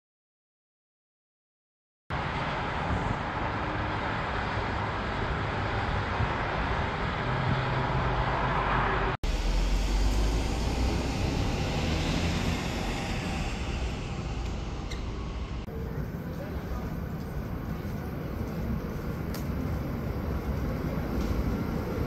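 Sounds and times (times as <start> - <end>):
moving vehicle rumble: 2.1 - 22.0
road traffic noise: 2.1 - 22.0.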